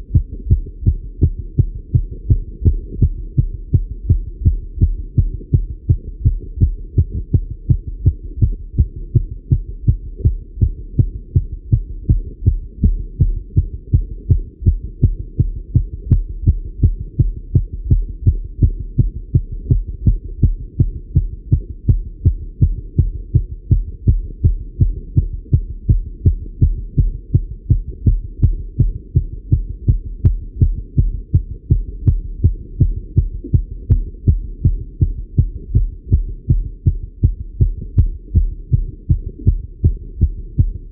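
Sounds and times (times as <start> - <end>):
fast heartbeat through stethoscope: 0.0 - 40.9.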